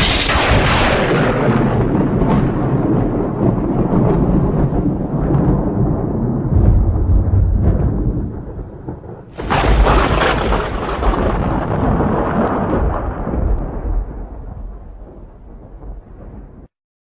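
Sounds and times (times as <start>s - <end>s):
sharp thunderclap: 0.0s - 16.7s
thunder rumbling: 0.0s - 16.7s.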